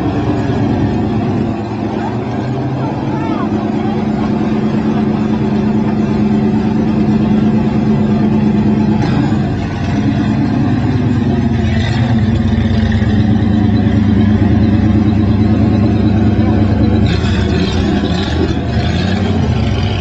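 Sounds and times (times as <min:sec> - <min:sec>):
race car engine running: 0:00.0 - 0:20.0.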